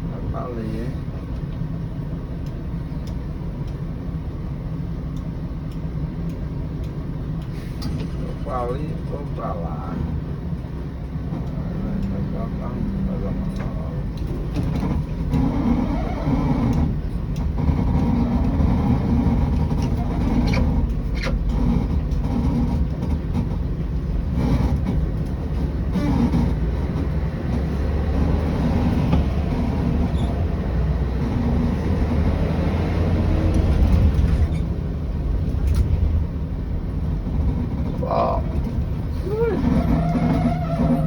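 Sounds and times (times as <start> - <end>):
bus diesel engine running: 0.0 - 41.0.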